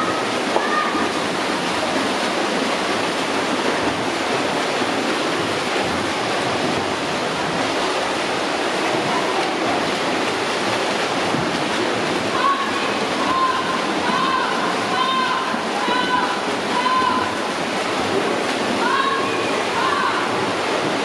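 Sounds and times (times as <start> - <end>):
swimmers splashing water: 0.0 - 21.0.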